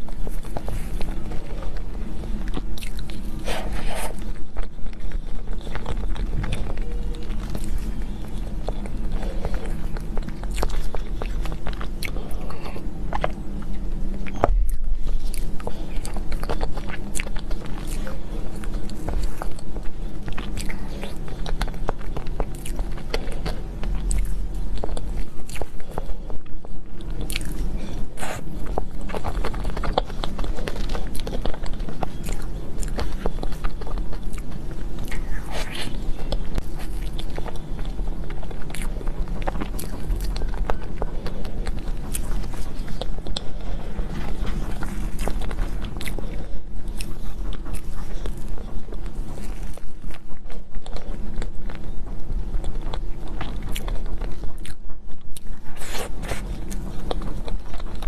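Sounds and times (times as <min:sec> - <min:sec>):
eating with wet chewing: 0:00.0 - 0:58.0
low steady hum: 0:00.0 - 0:58.0.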